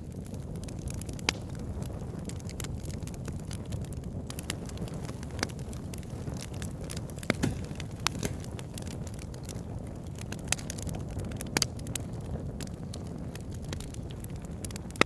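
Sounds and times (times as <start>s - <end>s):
campfire flames rumbling: 0.0s - 15.0s
fire crackling and popping: 0.0s - 15.0s.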